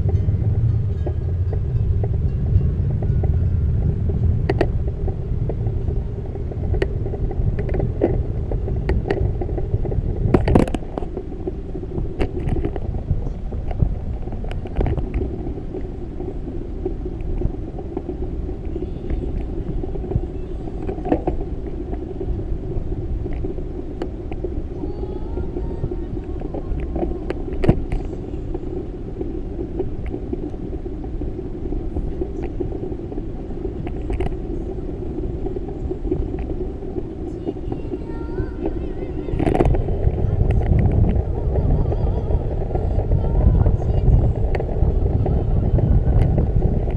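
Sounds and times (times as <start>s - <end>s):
low rumble of travel: 0.0s - 46.9s
sharp clicks and rattles: 0.0s - 46.9s.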